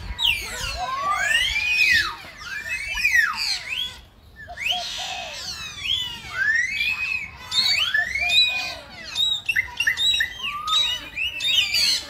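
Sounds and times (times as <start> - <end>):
animal squeaks and chirps: 0.0 - 12.0.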